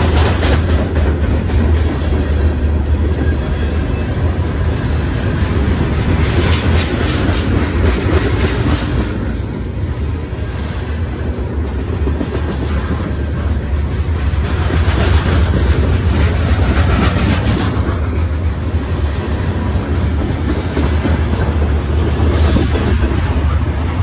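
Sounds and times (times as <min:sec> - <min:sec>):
clacks over rail joints: 0:00.0 - 0:09.5, 0:10.5 - 0:24.0
steel wheels rumbling on rails: 0:00.0 - 0:24.0.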